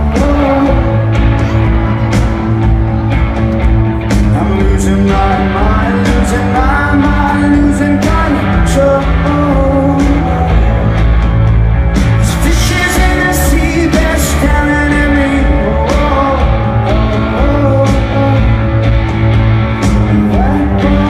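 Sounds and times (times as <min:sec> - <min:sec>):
person singing: 0:00.0 - 0:19.0, 0:19.6 - 0:21.0
drums with cymbal hits: 0:00.0 - 0:21.0
guitar: 0:00.0 - 0:21.0
heavy loud bass: 0:00.0 - 0:21.0
rock band playing live: 0:00.0 - 0:21.0.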